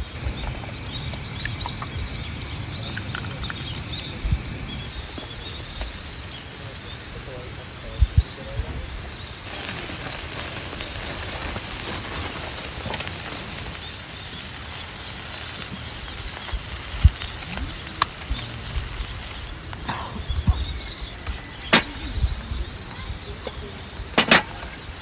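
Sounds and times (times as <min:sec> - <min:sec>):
food sizzling: 0:00.0 - 0:19.6, 0:20.5 - 0:25.0.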